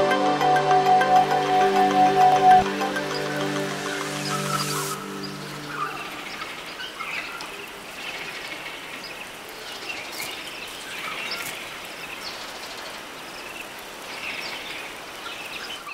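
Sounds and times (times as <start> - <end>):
birds chirping: 0.8 - 15.9
steady background hiss: 1.1 - 15.9.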